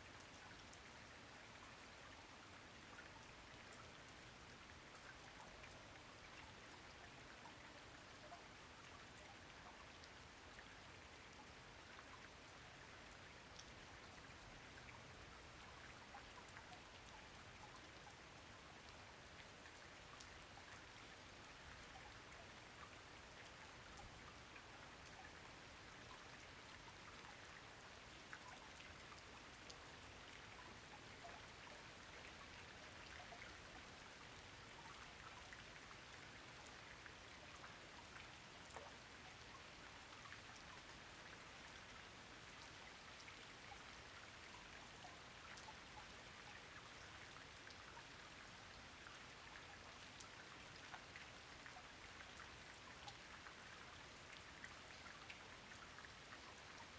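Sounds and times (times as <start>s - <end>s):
soft steady rain: 0.0s - 56.9s.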